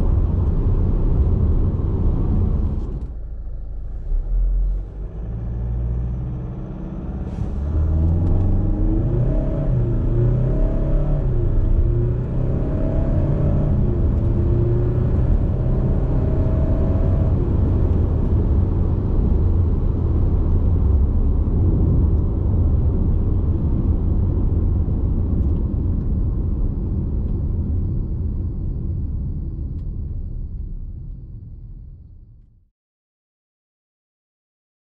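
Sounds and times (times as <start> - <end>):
diesel car engine accelerating: 0.0 - 29.0.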